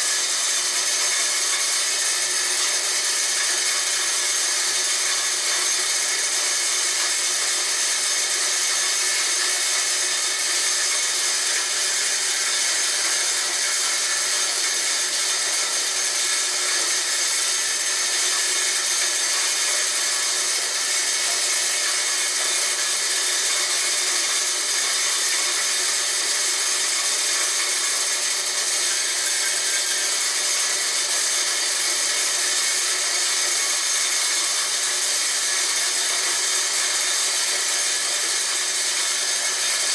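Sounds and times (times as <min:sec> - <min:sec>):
high-pitched grinder motor: 0:00.0 - 0:39.9.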